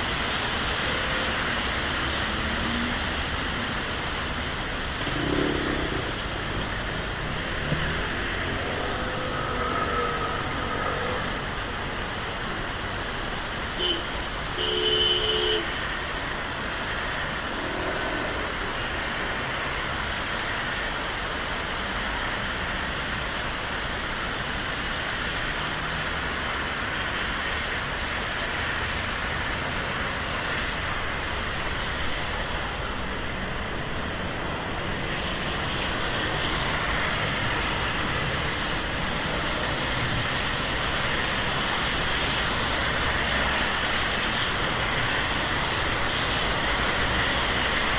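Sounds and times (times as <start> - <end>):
rain hissing: 0.0 - 24.8, 25.6 - 47.9
traffic on wet roads: 0.0 - 47.9.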